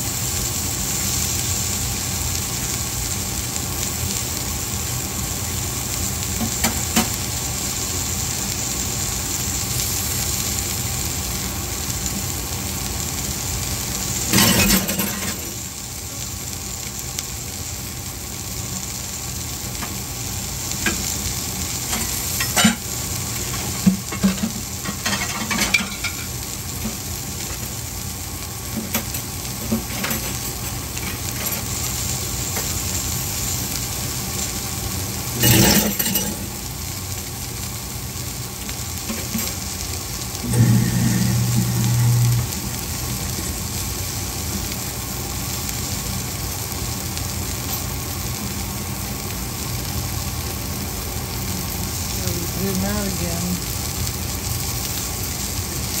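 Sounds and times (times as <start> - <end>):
vegetables sizzling in a pan: 0.0 - 56.0.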